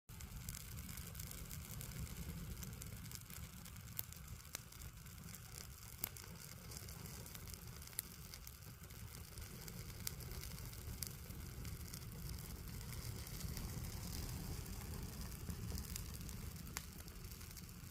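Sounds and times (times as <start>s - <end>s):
bonfire crackling and popping: 0.1s - 17.9s
low fire rumble: 0.1s - 17.9s.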